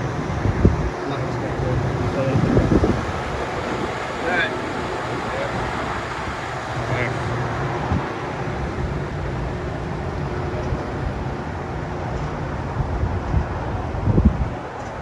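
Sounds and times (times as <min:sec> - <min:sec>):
outdoor background rumble: 0:00.0 - 0:15.0
wind buffeting microphone: 0:00.0 - 0:15.0.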